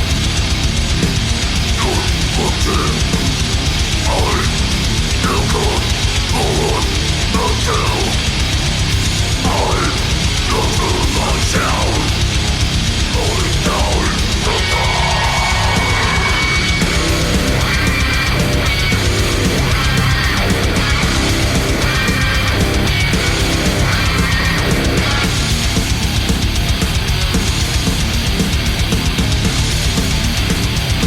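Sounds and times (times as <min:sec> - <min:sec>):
heavy metal song: 0:00.0 - 0:31.0
pounding drum kit: 0:00.0 - 0:31.0.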